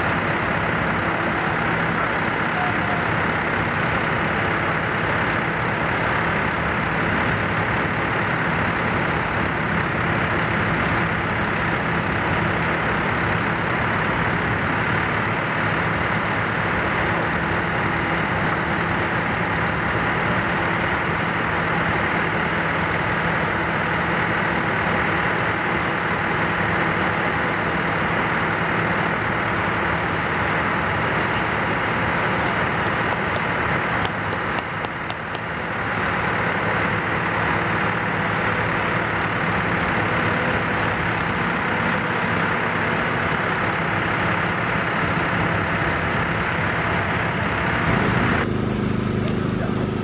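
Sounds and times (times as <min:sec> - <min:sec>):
heavy diesel engines running: 0:00.0 - 0:50.0.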